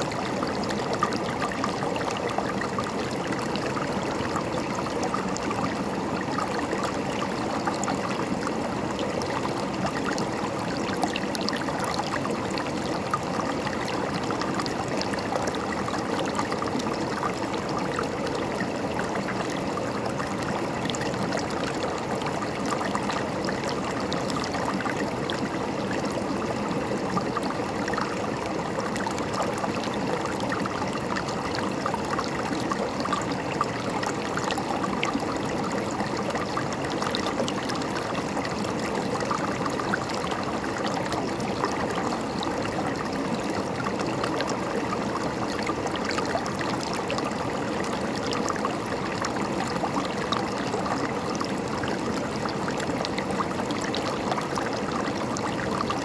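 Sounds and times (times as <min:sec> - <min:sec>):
river water flowing over rocks: 0:00.0 - 0:56.0.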